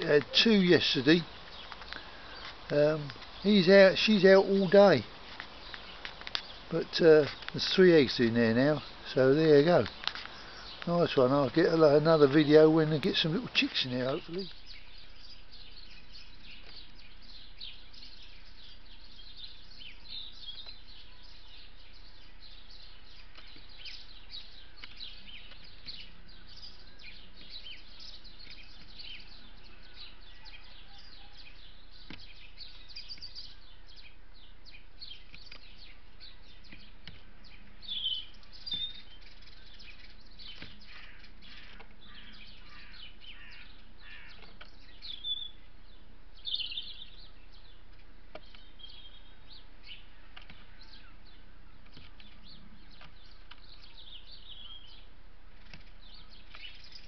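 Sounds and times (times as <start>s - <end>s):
loud bird calls: 0.0s - 57.0s
small birds chirping: 0.0s - 57.0s.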